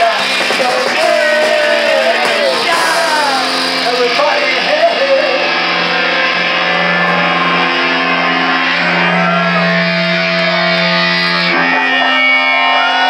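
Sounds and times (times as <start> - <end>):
electric guitar chords: 0.0 - 13.0
live band playing: 0.0 - 13.0.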